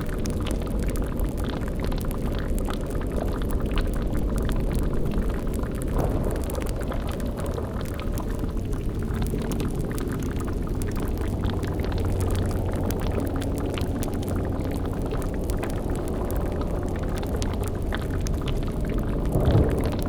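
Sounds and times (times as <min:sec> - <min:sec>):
cauldron bubbling: 0:00.0 - 0:20.0
deep low rumble: 0:00.0 - 0:20.0
faint crackles: 0:00.0 - 0:20.0.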